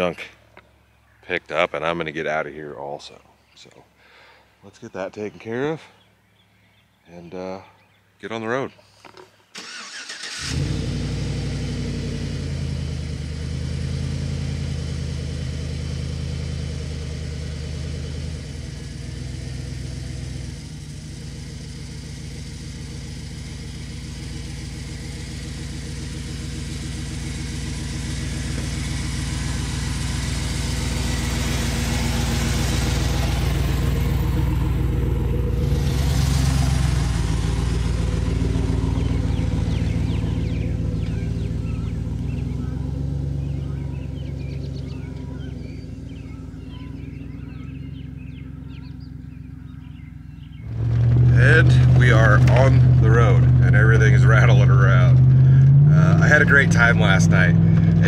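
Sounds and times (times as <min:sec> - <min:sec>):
pickup truck engine running: 0:09.6 - 0:58.0
truck driving on dirt track: 0:10.6 - 0:58.0.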